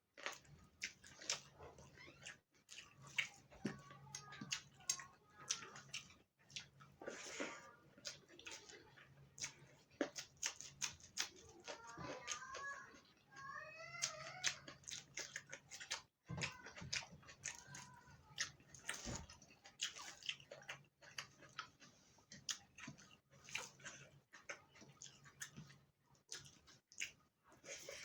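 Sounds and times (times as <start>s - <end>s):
chewing with wet mouth clicks: 0.1s - 13.0s, 13.9s - 28.0s.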